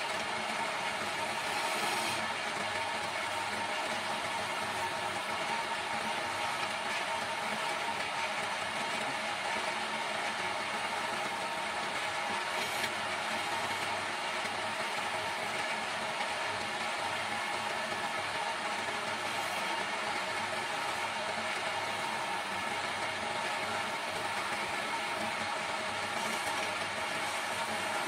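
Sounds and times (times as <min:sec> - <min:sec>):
turning tool cutting wood: 0:00.0 - 0:09.4, 0:10.2 - 0:15.6, 0:16.5 - 0:28.0
faint lathe motor hum: 0:00.0 - 0:28.0.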